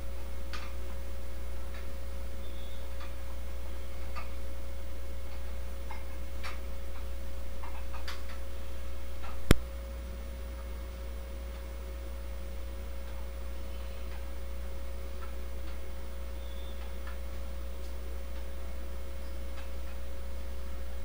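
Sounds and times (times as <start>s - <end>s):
faint steady tone: 0.0s - 21.0s
steady low hum: 0.0s - 21.0s.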